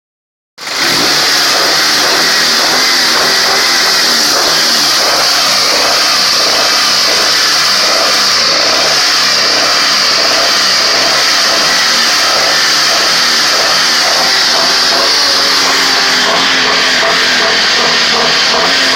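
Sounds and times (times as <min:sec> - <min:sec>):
car engine knocking and rattling: 0:00.6 - 0:18.9.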